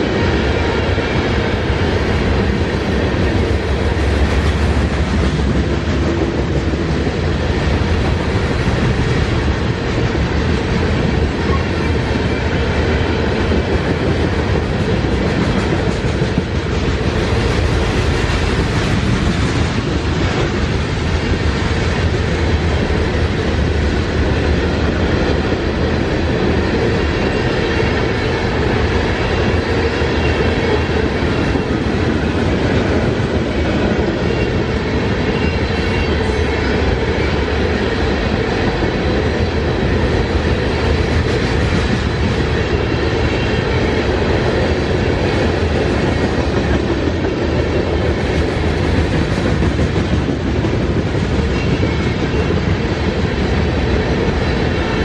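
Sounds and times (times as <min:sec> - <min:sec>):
clickety-clack over rail joints: 0:00.0 - 0:55.0
freight train wheels rumbling on rail: 0:00.0 - 0:55.0.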